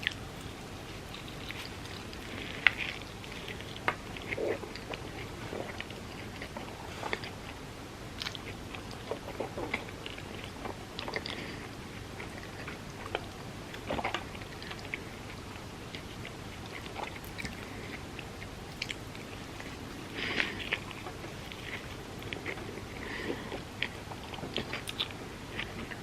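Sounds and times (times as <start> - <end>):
chewing crispy food: 0.0 - 26.0.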